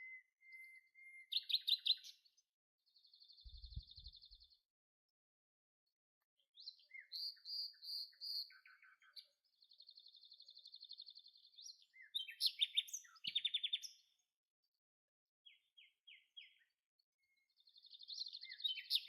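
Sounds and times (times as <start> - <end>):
songbirds singing: 0.0 - 4.7, 6.3 - 14.8, 15.4 - 19.0.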